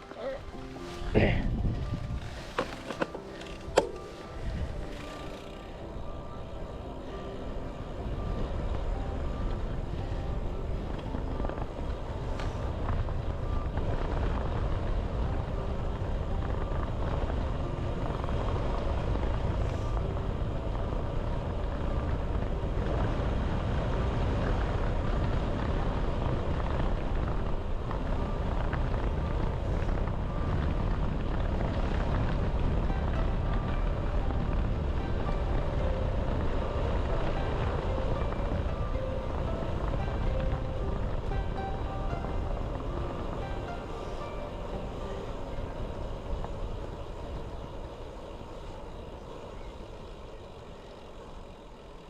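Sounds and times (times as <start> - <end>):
wind buffeting microphone: 0.0 - 51.6.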